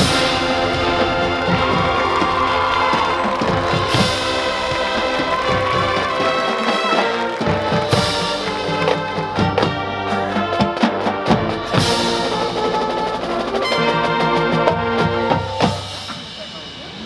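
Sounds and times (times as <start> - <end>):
drum and mallet percussion: 0.0 - 17.0
marching band chords: 0.0 - 17.0.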